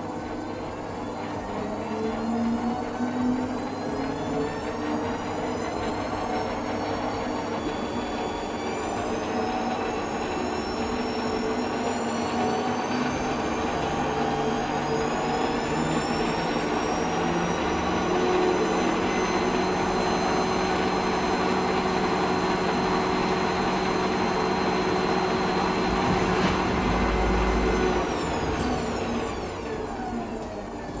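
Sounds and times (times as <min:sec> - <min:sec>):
lathe motor whine: 0:00.0 - 0:31.0.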